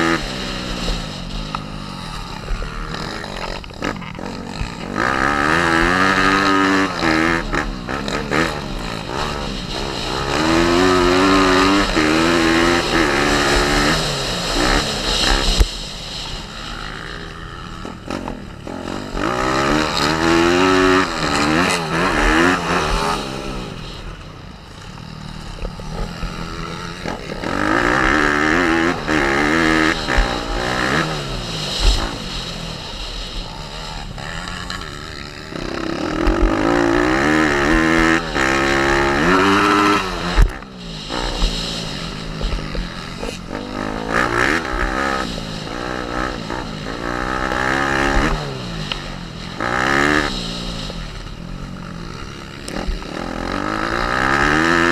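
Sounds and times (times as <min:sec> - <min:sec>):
pit bike engine revving: 0:00.0 - 0:54.9.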